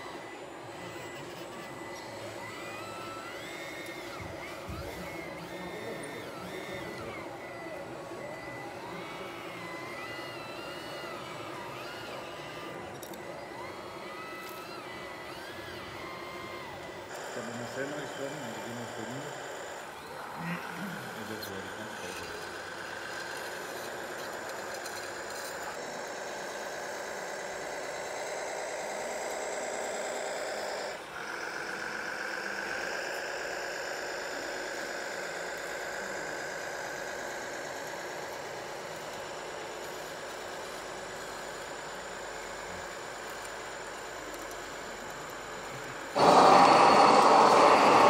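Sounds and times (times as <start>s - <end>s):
model soil compactor running: 0.0s - 48.0s.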